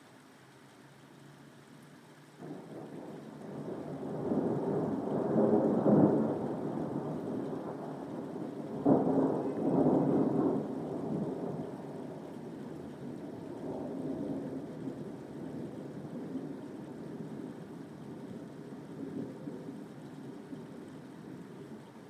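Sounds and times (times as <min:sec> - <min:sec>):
steady rain: 0:00.0 - 0:22.0
thunder: 0:02.4 - 0:21.4.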